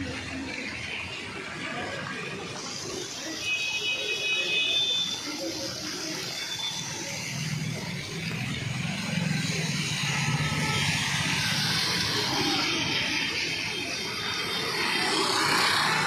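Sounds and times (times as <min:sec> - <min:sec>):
tyres hissing on wet road: 0:00.0 - 0:16.0.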